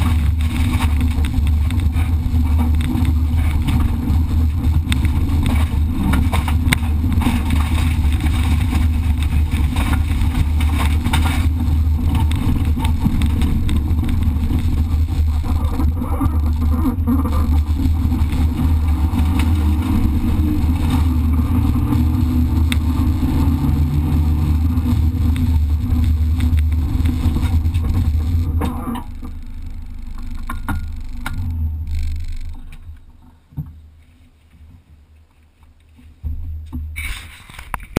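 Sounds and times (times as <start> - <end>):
car engine running hard: 0.0 - 33.2
road and wind noise: 0.0 - 37.9.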